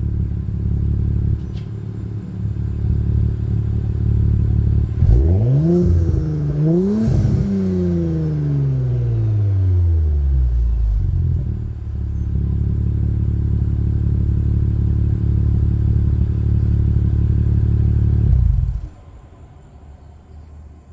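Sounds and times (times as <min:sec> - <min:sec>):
car engine revving and idling: 0:00.0 - 0:19.2.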